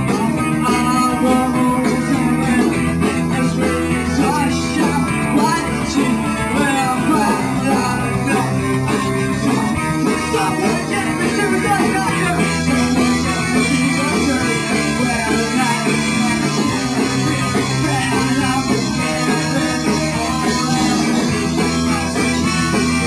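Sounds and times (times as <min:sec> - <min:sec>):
bass guitar: 0:00.0 - 0:23.0
drums: 0:00.0 - 0:23.0
electric guitars: 0:00.0 - 0:23.0
person singing: 0:00.0 - 0:23.0.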